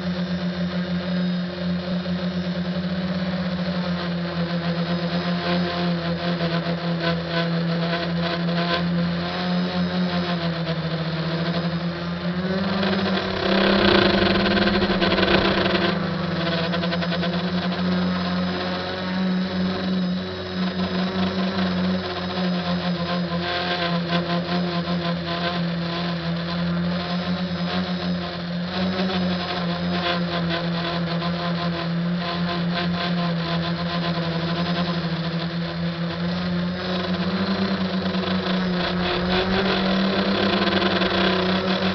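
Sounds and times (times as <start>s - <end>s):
drone propellers buzzing: 0.0s - 41.9s.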